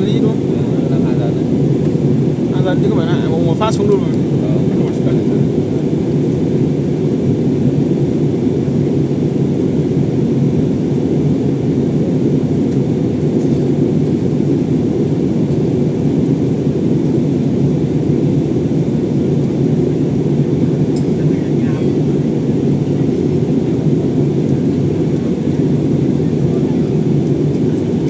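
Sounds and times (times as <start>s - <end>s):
jet cabin engine rumble: 0.0s - 28.0s.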